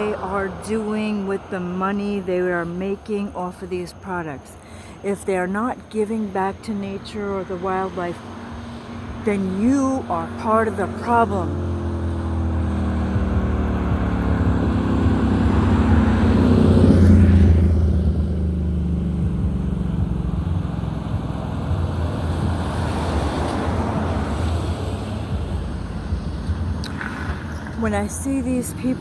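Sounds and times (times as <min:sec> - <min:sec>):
engine and road hum: 0:00.0 - 0:29.0.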